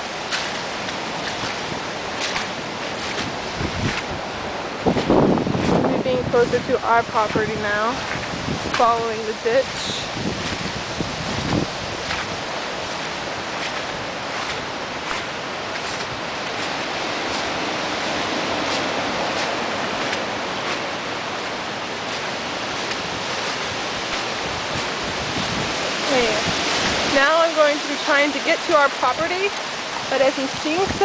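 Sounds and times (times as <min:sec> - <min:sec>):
floodwater rushing: 0:00.0 - 0:31.0
splashes of wading: 0:00.0 - 0:31.0.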